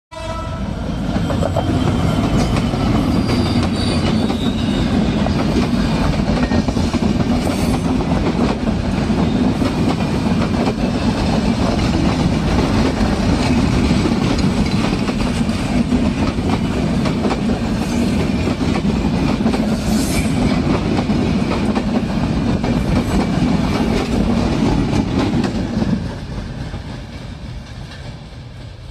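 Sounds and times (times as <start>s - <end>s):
train wheels clattering: 1.0s - 28.9s.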